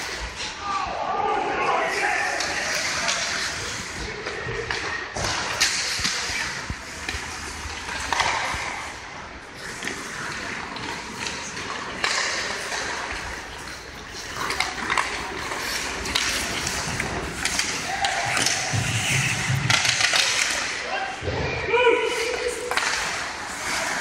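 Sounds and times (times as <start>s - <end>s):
skates scraping ice: 0.0s - 21.2s, 21.8s - 24.0s
hockey sticks and puck clicking: 1.9s - 20.9s, 22.1s - 24.0s.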